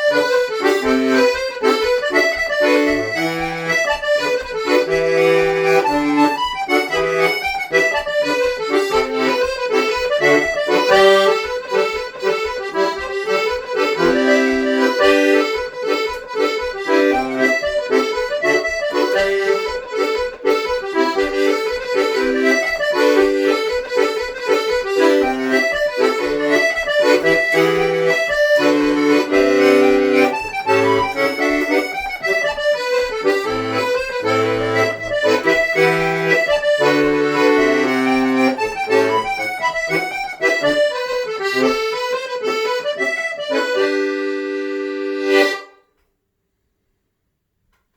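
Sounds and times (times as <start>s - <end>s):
accordion playing a lively folk tune: 0.0s - 45.9s.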